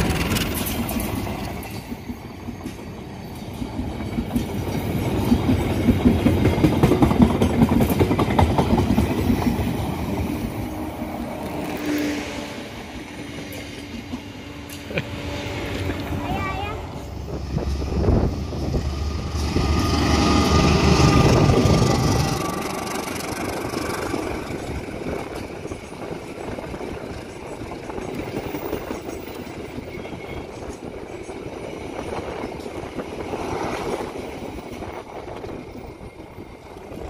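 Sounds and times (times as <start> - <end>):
diesel locomotive engine rumble: 0.0 - 37.0
wheels on rails: 0.0 - 37.0.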